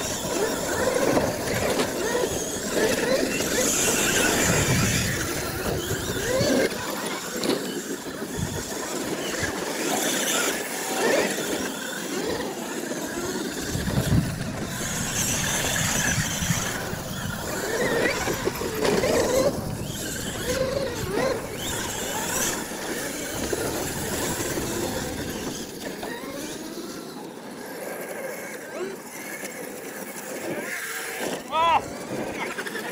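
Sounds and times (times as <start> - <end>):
toy truck motor whine: 0.0 - 32.9.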